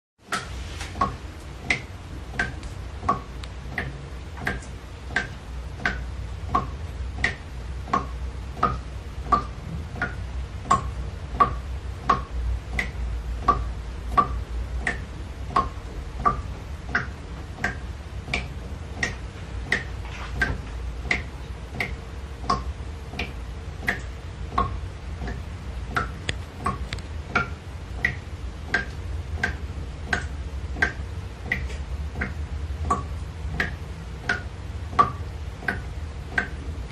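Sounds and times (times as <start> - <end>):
low steady rumble: 0.2 - 36.9.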